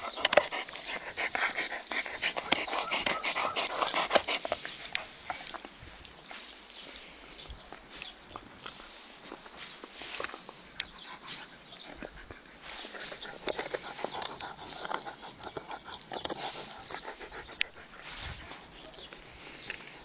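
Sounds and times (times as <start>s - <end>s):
dog panting: 0.0s - 7.3s, 8.0s - 20.0s.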